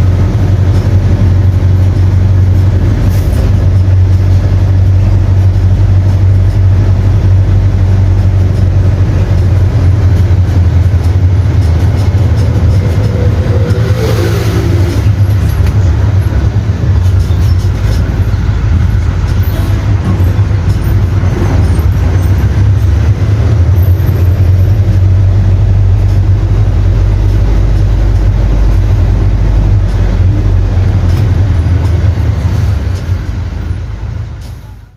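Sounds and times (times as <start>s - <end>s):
diesel bus engine droning: 0.0s - 34.9s.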